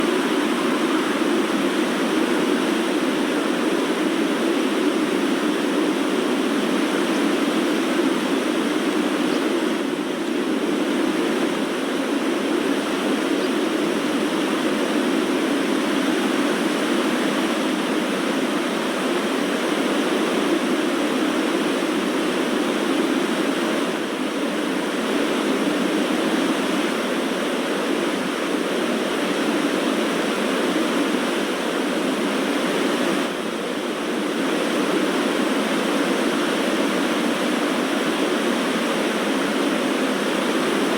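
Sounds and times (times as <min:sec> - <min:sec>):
rushing wind: 0:00.0 - 0:40.9.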